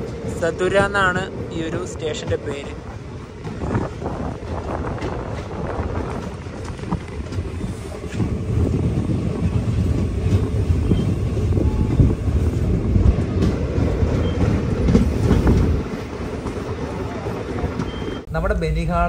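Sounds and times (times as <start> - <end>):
train wheels clattering over rails: 0.0 - 18.3.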